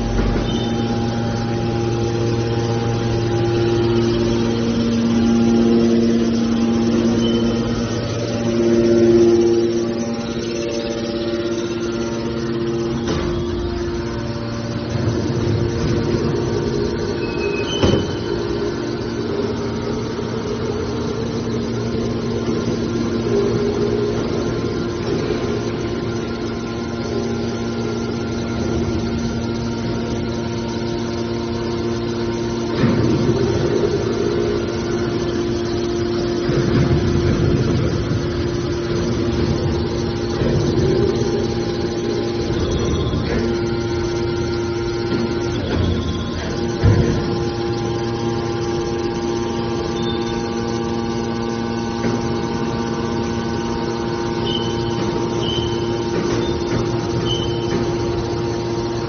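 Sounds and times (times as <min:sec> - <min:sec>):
hydraulic power unit humming: 0:00.0 - 0:59.0.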